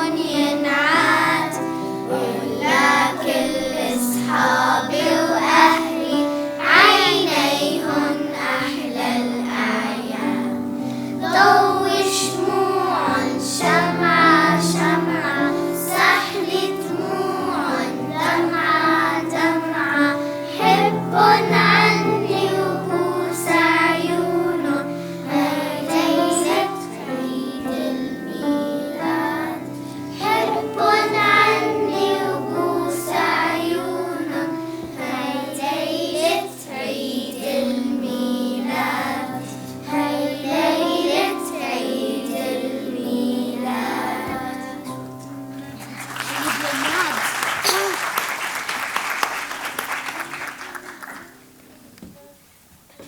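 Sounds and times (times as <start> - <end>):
children's choir singing: 0.0 - 52.1.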